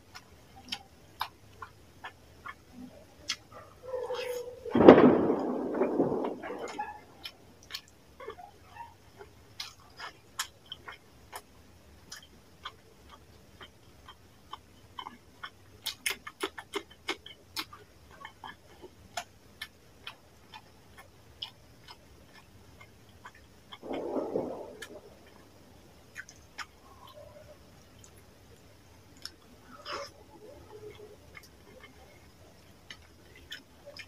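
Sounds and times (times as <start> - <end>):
person chewing wetly: 0.0 - 4.5, 5.5 - 25.5, 26.1 - 34.0.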